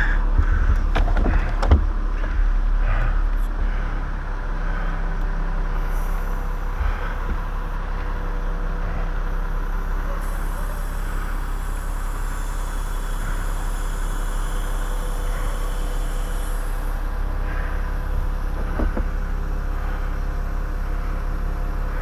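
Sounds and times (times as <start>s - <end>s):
chainsaw idling: 0.0s - 22.0s.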